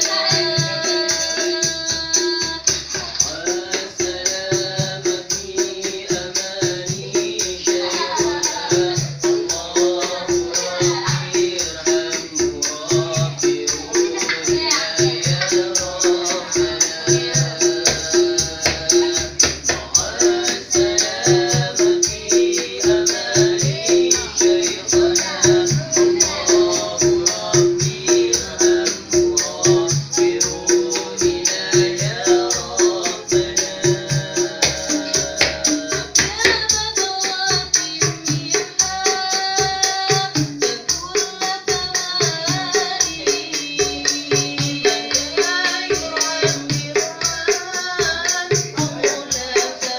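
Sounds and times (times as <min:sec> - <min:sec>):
fast jingling beat: 0:00.0 - 0:49.9
hand drums: 0:00.0 - 0:49.9
person singing: 0:00.0 - 0:49.9.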